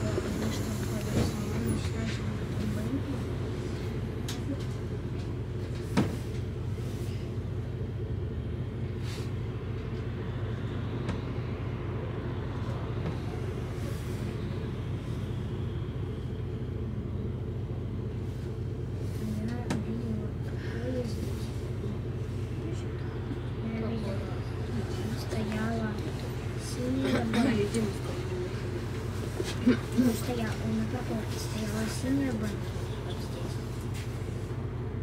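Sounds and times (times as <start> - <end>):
bus engine idling: 0.0 - 35.0.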